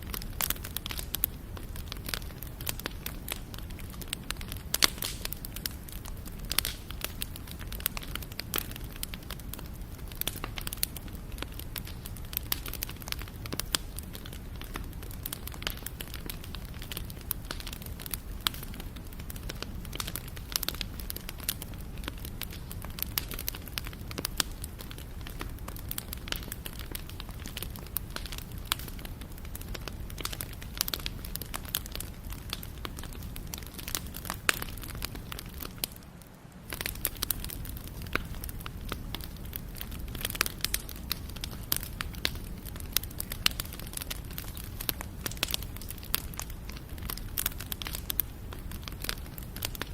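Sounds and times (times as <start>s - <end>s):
burning wood crackling and popping: 0.0s - 49.9s
low rumble of fire: 0.0s - 49.9s.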